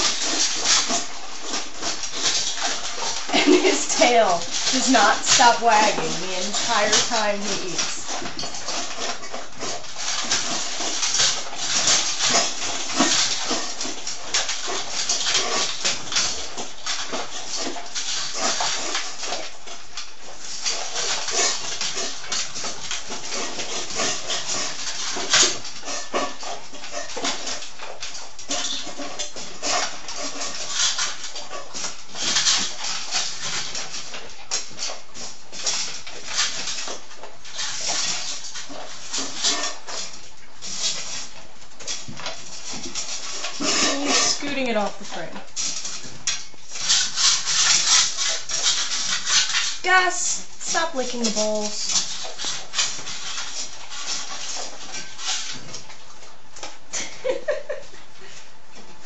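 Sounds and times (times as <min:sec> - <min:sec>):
clatter against metal bowls: 0:00.0 - 0:56.0
dogs chewing and crunching: 0:00.0 - 0:59.0.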